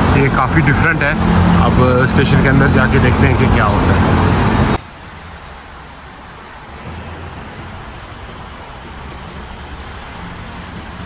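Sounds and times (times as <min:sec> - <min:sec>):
distant road traffic: 0:00.0 - 0:11.0.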